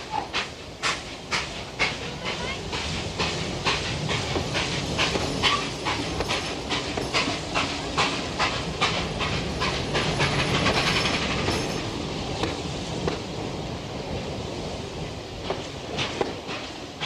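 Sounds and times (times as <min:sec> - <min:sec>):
wheels clicking over rail joints: 0:00.0 - 0:13.3, 0:15.4 - 0:17.0
train carriages rumbling: 0:00.0 - 0:17.0.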